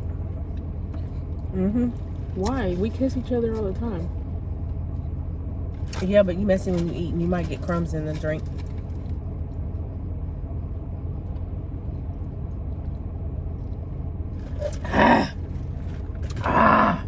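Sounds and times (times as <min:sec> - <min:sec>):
car engine rumble in cabin: 0:00.0 - 0:17.0.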